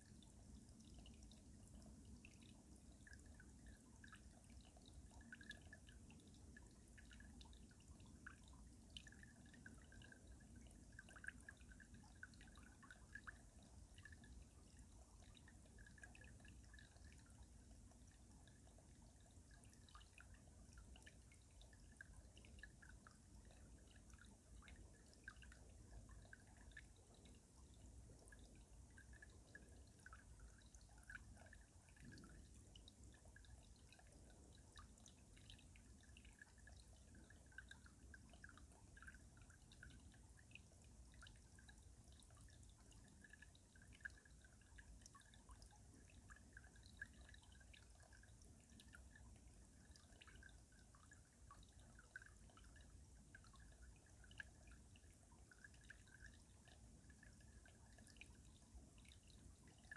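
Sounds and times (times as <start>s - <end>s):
water dripping and trickling: 0.0s - 59.9s.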